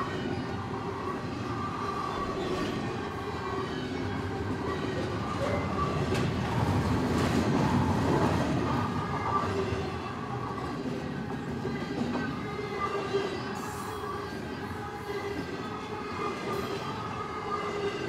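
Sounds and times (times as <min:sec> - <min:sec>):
train wheels rumbling on rail: 0:00.0 - 0:15.7.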